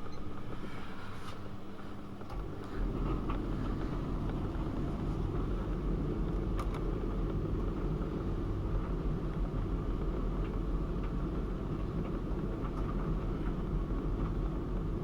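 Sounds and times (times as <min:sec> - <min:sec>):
washing machine rumbling: 0:00.0 - 0:15.0.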